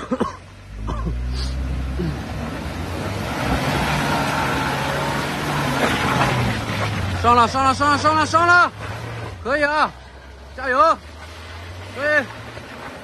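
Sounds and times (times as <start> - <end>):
suv engine running hard: 0.0 - 13.0
tyres churning through mud: 0.0 - 13.0.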